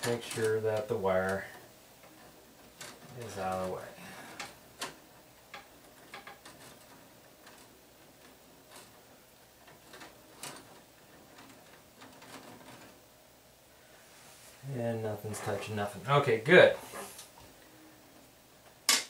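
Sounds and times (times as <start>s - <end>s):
electrical wires clicking and tapping: 0.0s - 13.2s, 14.9s - 19.0s.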